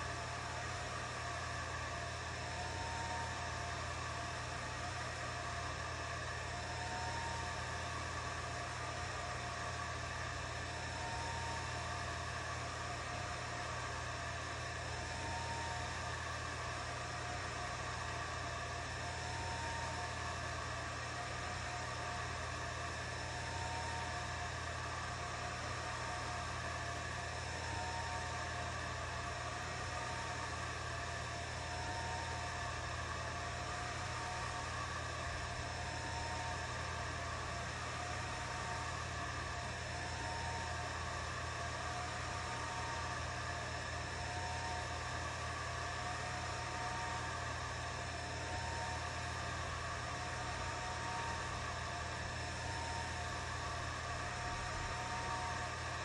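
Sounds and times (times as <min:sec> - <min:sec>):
faint motor whine: 0:00.0 - 0:56.0
steady fan hum: 0:00.0 - 0:56.0.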